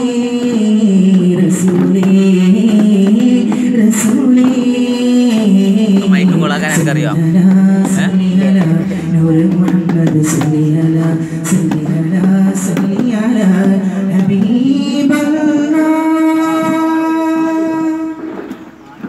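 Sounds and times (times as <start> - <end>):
man singing into a microphone: 0.0 - 18.5.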